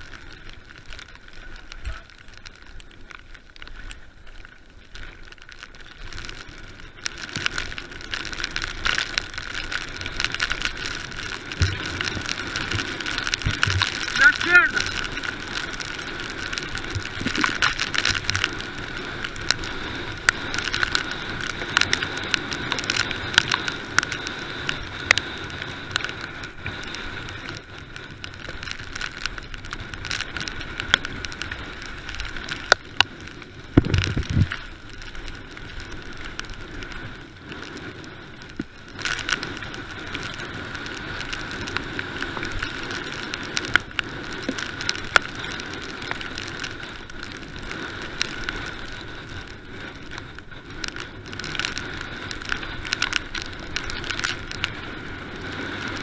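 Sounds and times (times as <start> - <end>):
bike rattles and clicks: 0.0 - 56.0
bike tyre noise on dirt: 0.0 - 56.0.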